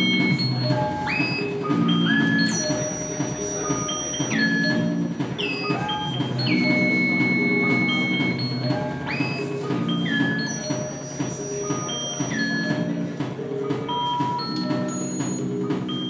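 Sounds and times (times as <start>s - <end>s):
low steady synth tones: 0.0s - 16.0s.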